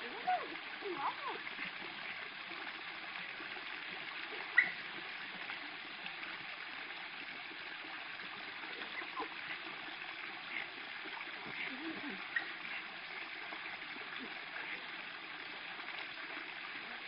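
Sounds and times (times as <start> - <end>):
steady rush of water: 0.0 - 17.0
water splashing and lapping: 0.0 - 17.0.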